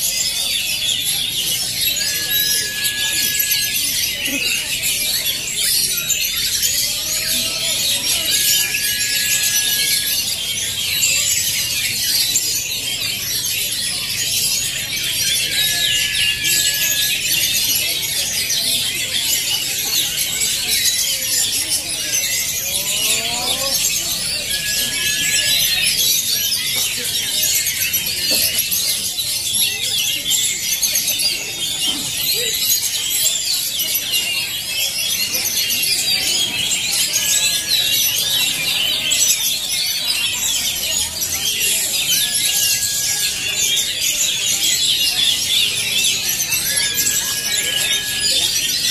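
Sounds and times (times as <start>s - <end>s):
chorus of birds chirping and trilling: 0.0s - 48.9s.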